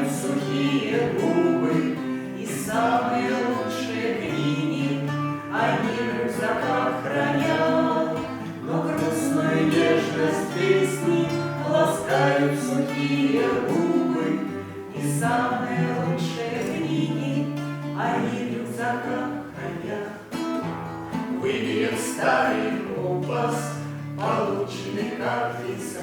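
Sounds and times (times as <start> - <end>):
acoustic guitar: 0.0 - 26.0
man and woman singing: 0.0 - 26.0.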